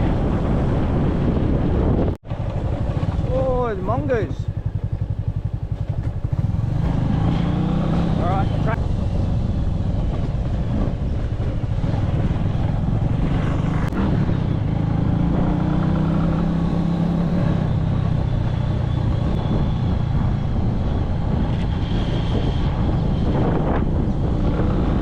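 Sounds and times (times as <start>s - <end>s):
road and wind noise: 0.0s - 25.0s
motorbike engine running: 0.1s - 25.0s.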